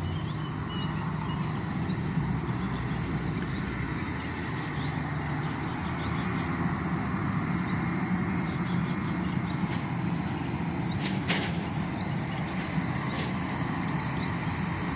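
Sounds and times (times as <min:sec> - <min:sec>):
bird chirping: 0:00.0 - 0:07.0, 0:07.6 - 0:11.2, 0:11.8 - 0:14.6
jet engines rumbling: 0:00.0 - 0:14.9.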